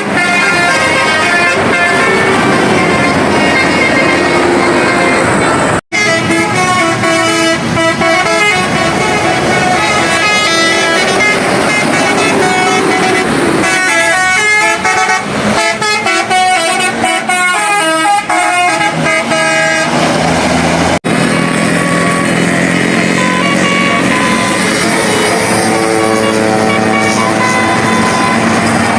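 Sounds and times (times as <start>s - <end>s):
musical bus air horn: 0.0s - 20.2s, 21.6s - 28.9s
road traffic: 0.0s - 28.9s.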